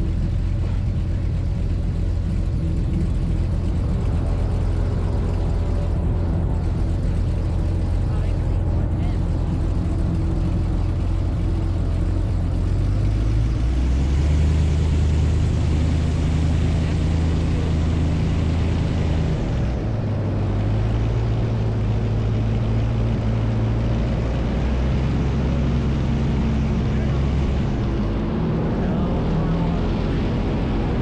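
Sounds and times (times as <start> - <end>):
airboat engine and propeller: 0.0 - 31.0.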